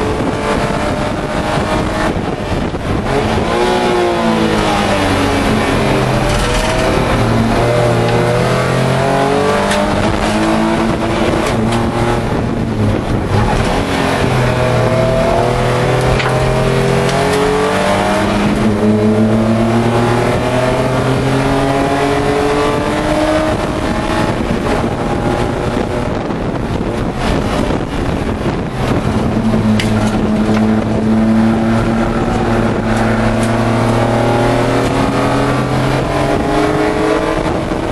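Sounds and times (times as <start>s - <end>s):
race car engine accelerating: 0.0s - 37.9s.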